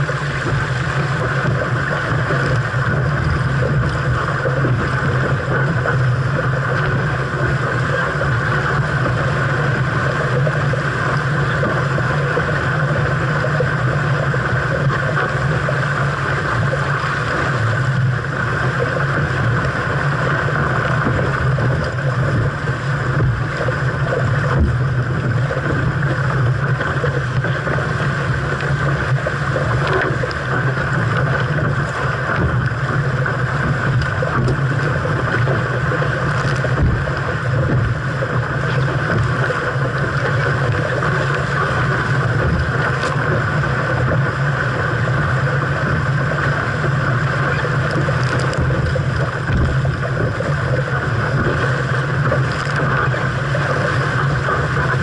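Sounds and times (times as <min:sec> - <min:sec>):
water along boat hull: 0:00.0 - 0:55.0
wind buffeting microphone: 0:00.0 - 0:55.0.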